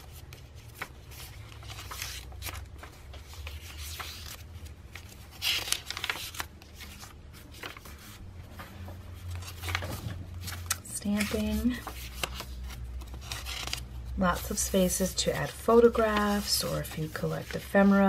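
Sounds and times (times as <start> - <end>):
thick paper pages turning: 0.0 - 18.0.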